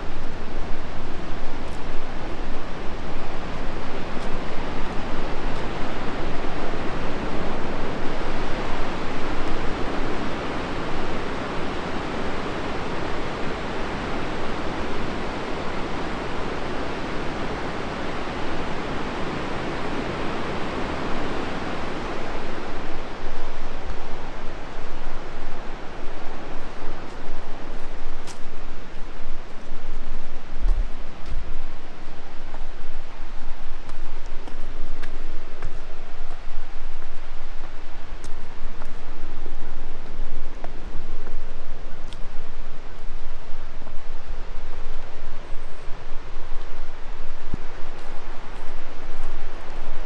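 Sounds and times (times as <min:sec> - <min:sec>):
river whitewater roar: 0:00.0 - 0:50.0.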